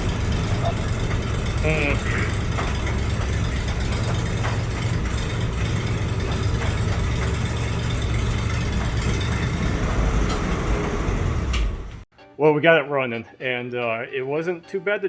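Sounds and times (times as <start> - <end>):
truck engine running: 0.0 - 12.1.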